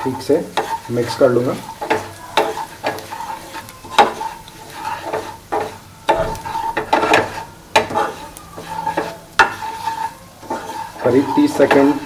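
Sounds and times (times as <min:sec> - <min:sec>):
spatula scraping a pan: 0:00.0 - 0:12.0
spices sizzling in oil: 0:00.0 - 0:12.0.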